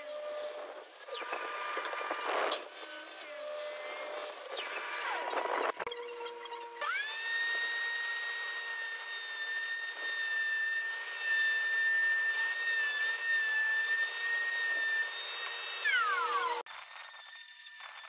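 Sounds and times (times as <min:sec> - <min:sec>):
router motor whining: 0:00.0 - 0:18.0
wood being cut by router bit: 0:00.0 - 0:18.0.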